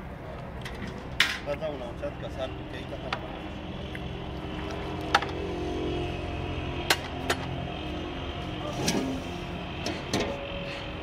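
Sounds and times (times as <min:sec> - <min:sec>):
low engine-like hum: 0:00.0 - 0:11.0.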